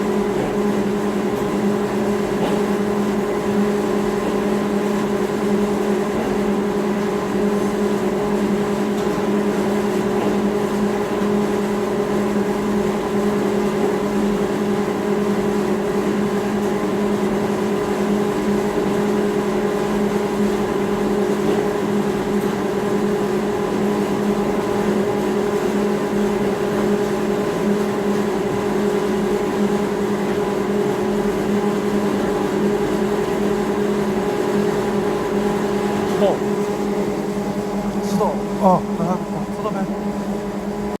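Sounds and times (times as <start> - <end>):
steady machine hum: 0.0 - 41.0.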